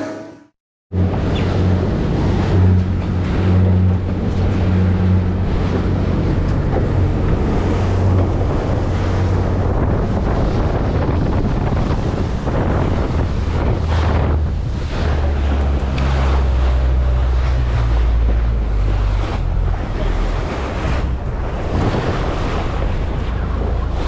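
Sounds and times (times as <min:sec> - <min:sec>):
boat engine humming: 0:00.0 - 0:24.0
sea water rushing past hull: 0:00.9 - 0:24.0
wind buffeting microphone: 0:00.9 - 0:24.0.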